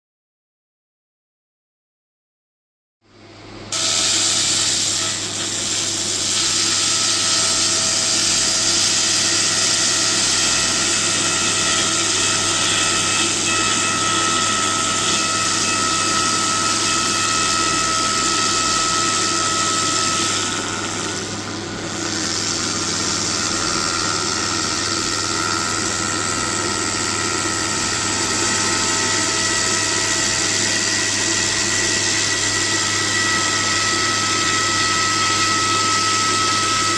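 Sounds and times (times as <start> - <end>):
laser cleaner hissing buzz: 3.7 - 36.9.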